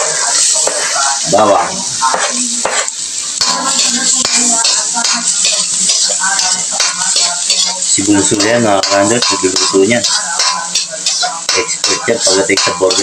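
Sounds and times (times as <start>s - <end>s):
garlic sizzling in butter: 0.0s - 13.0s
spatula scraping and tapping pan: 0.0s - 13.0s.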